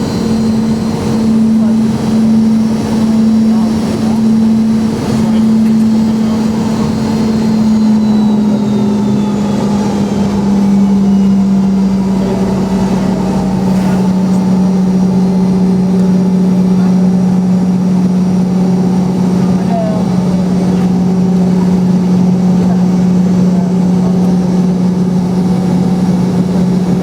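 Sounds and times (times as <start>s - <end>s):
jet engines droning: 0.0s - 27.0s.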